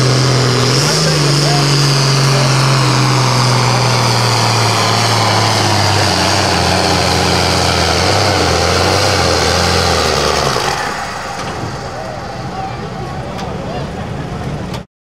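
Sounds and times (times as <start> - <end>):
tractor diesel engine under load: 0.0 - 14.9.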